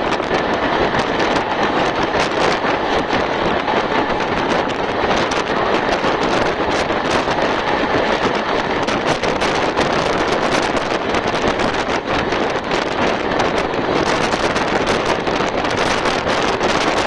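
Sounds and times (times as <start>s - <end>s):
train running noise: 0.0s - 17.0s
wind rushing on microphone: 0.0s - 17.0s.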